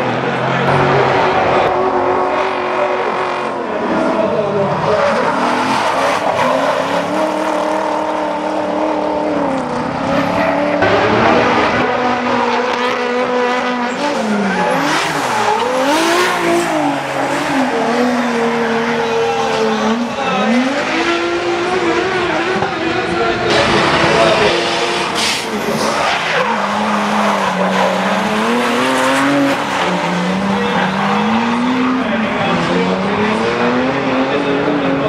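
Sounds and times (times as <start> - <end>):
car engines revving hard: 0.0 - 35.0
tyres squealing and skidding: 0.6 - 11.6, 12.8 - 22.4, 23.4 - 33.7.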